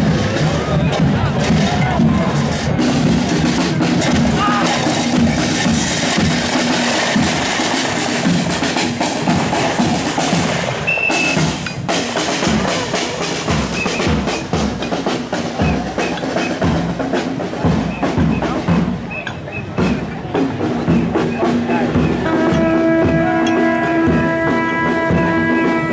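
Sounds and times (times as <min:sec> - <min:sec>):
marching drums beating: 0:00.0 - 0:25.9
street noise: 0:00.0 - 0:25.9.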